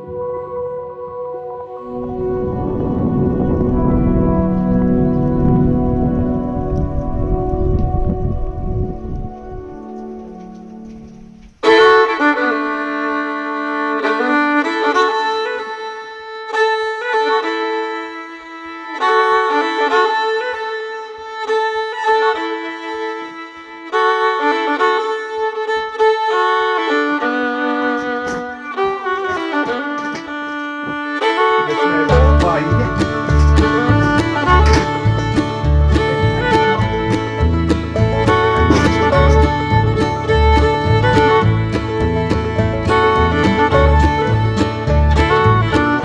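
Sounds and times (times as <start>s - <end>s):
instrumental violin music: 0.0s - 46.0s.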